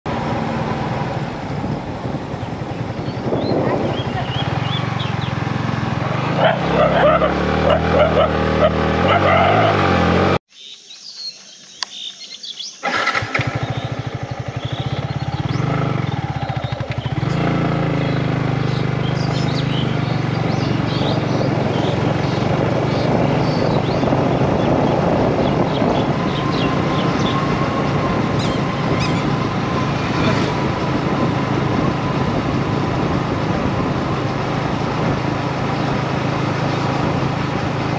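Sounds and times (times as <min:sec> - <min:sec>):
motorcycle engine running: 0:00.1 - 0:10.4, 0:12.8 - 0:37.9.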